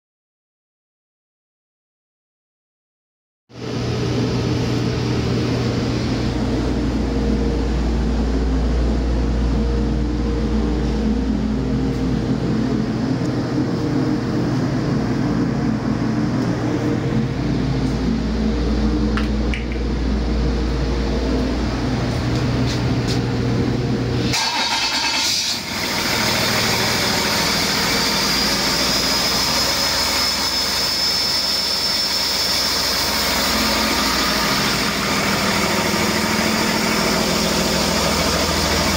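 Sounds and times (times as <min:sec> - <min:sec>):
turbocharger whine: 0:03.5 - 0:38.9
diesel engine idling: 0:03.7 - 0:38.9.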